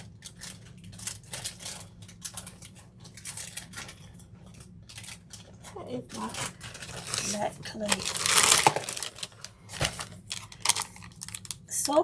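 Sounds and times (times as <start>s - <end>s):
rustling and crinkling: 0.0s - 11.6s
faint steady hum: 0.0s - 12.0s.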